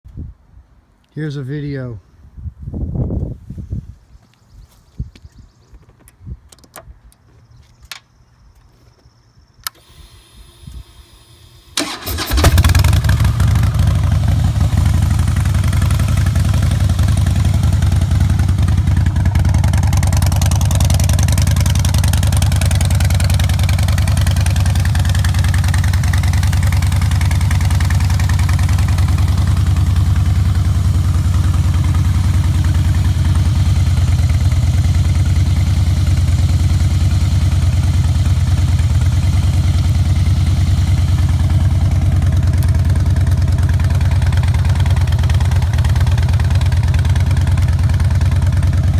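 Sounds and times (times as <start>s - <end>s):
motorcycle engine starting and idling: 9.7s - 48.9s.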